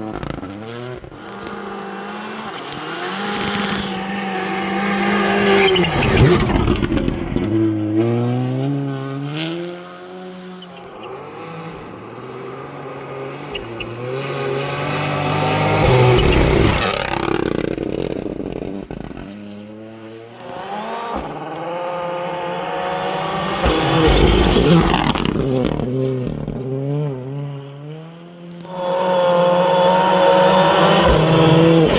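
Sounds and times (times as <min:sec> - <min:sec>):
rally car engines revving past: 0:00.0 - 0:31.9.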